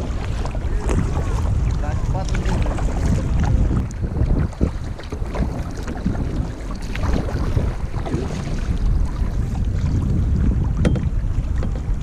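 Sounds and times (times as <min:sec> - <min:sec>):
canoe paddling knocks: 0:00.0 - 0:12.0
water sounds: 0:00.0 - 0:12.0
wind buffeting microphone: 0:00.0 - 0:12.0.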